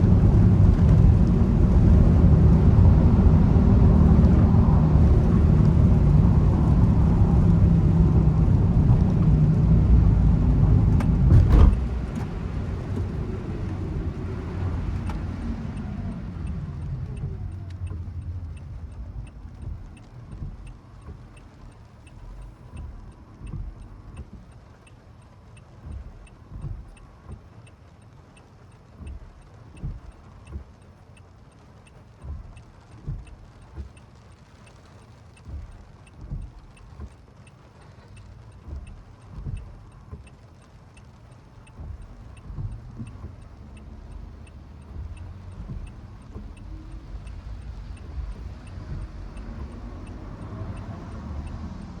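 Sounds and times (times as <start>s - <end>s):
soft low thumps: 0.0s - 24.6s, 25.8s - 27.5s, 29.0s - 30.8s, 32.2s - 34.0s, 35.4s - 37.2s, 38.2s - 40.4s, 41.4s - 52.0s
car engine and tyre noise: 0.0s - 52.0s
faint regular ticking: 0.0s - 52.0s.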